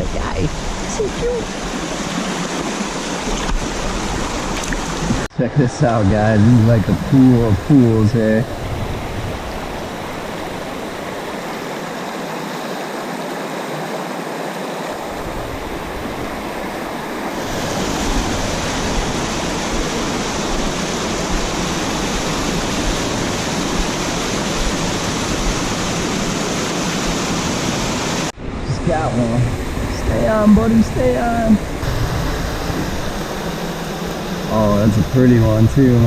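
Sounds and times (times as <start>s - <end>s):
stream rushing over rocks: 0.0s - 5.3s, 5.9s - 36.0s.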